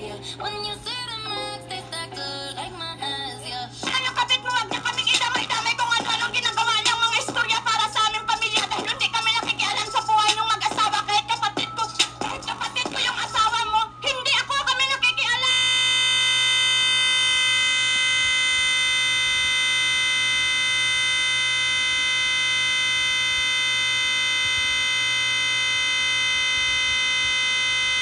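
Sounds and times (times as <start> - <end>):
speakers buzzing steadily: 0.0 - 28.0.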